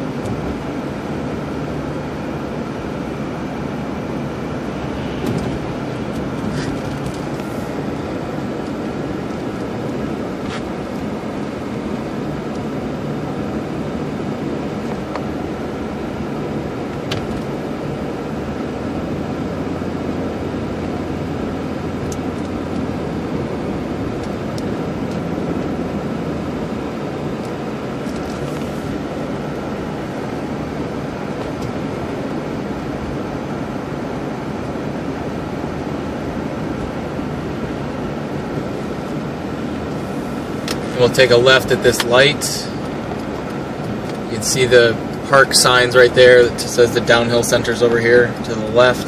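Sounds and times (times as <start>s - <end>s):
car engine running: 0.0s - 49.0s
tyre and road noise: 0.0s - 49.0s.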